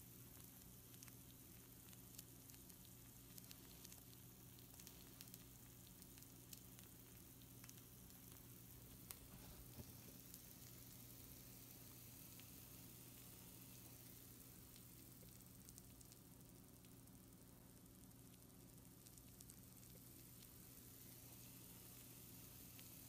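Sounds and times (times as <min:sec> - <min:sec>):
food sizzling on baking sheet: 0:00.0 - 0:23.0
low steady hum: 0:00.0 - 0:23.0.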